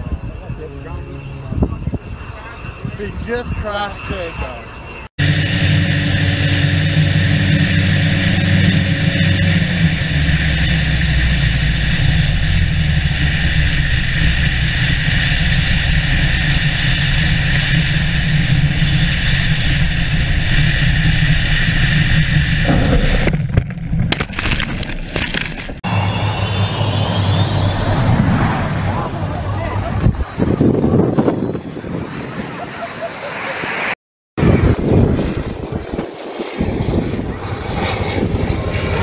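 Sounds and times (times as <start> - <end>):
wind rushing over microphone: 0.0 - 33.1, 34.4 - 39.0
propeller engine running: 0.0 - 39.0.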